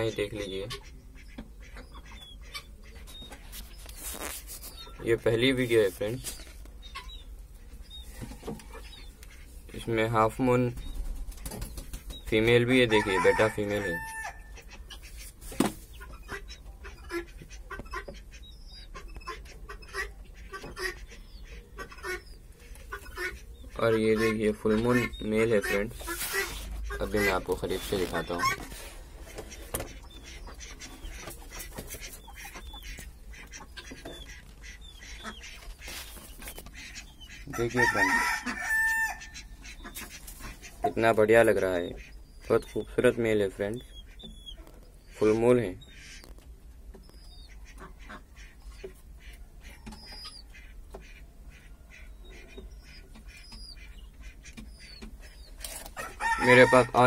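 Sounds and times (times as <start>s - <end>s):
fowl chirping: 0.0s - 57.0s.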